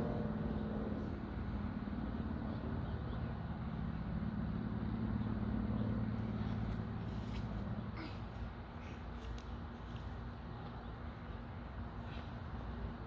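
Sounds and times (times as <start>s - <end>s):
distant aircraft engine drone: 0.0s - 13.0s.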